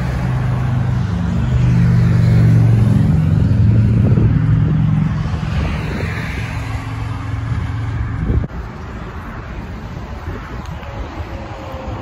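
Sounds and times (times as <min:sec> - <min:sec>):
passing vehicle engine drone: 0:00.0 - 0:12.0
traffic: 0:00.0 - 0:12.0
wind noise: 0:00.0 - 0:12.0.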